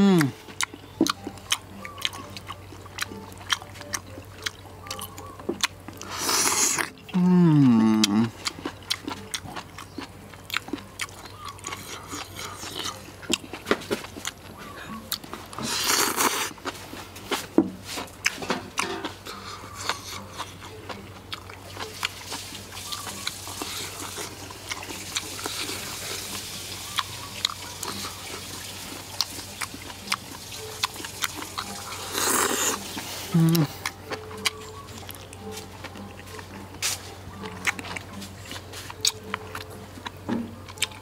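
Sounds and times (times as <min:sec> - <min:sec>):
chewing and mouth smacks: 0:00.1 - 0:41.0.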